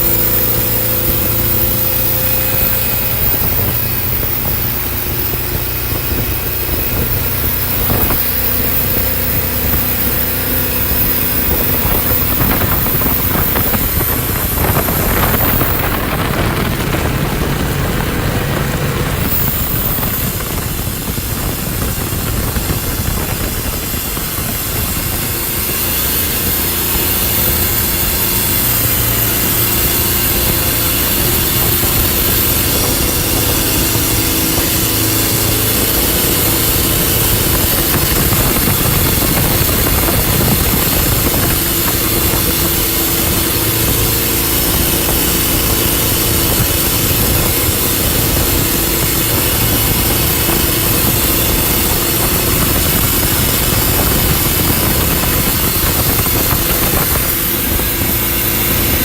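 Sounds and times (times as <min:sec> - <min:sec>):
speedboat engine running: 0:00.0 - 0:59.0.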